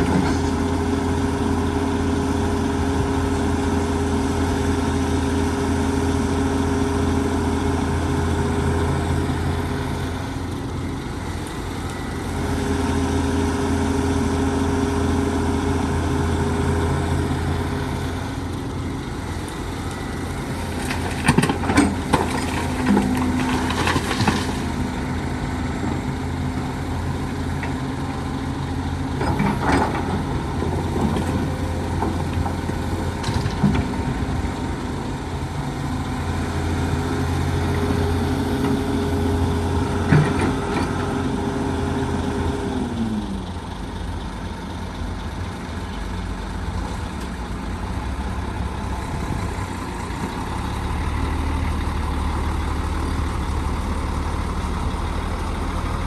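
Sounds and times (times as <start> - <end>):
diesel excavator engine running: 0.0 - 56.0.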